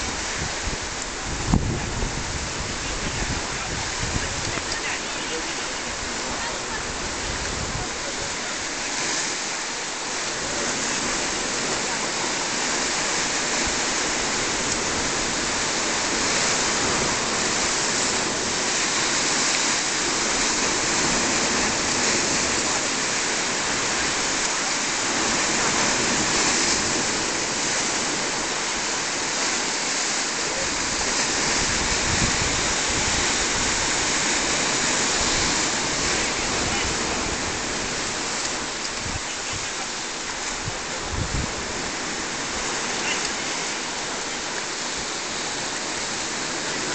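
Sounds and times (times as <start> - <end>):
surf rushing against shore: 0.0 - 46.9.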